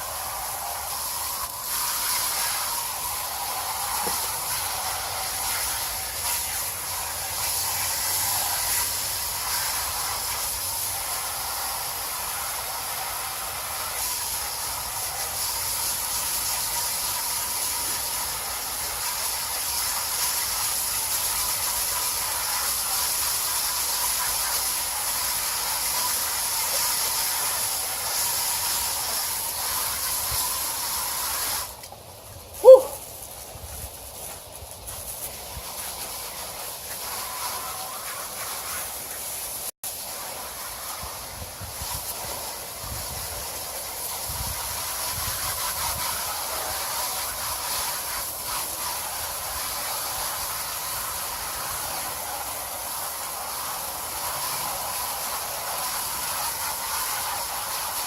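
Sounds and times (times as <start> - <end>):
garden hose spraying water: 0.0 - 58.0.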